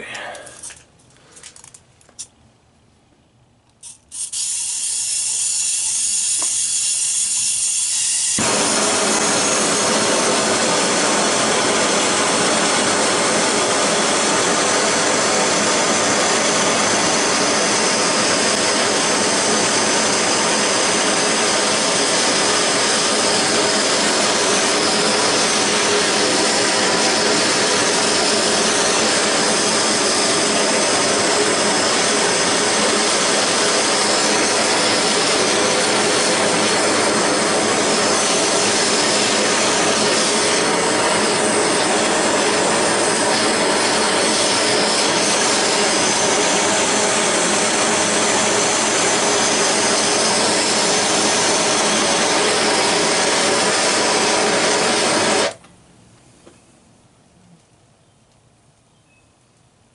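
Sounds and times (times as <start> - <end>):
blowtorch flame hissing: 3.8 - 55.6.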